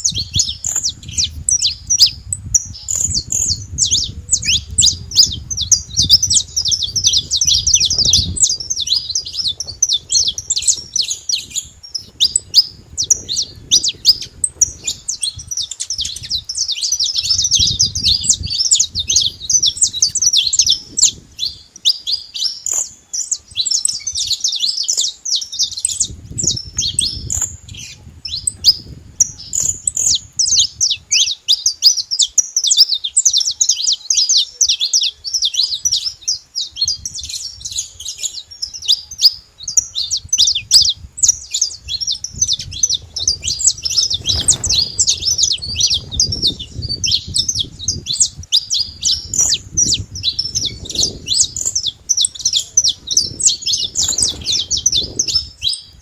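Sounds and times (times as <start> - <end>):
finch singing rapid chirps: 0.0 - 56.0.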